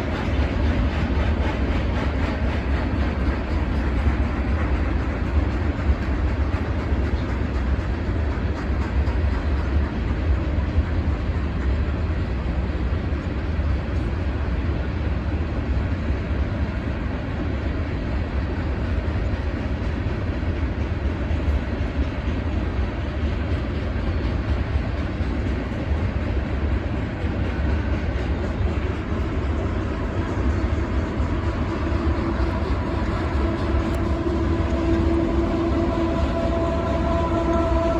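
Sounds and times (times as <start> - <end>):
train cars rolling on rails: 0.0 - 37.9.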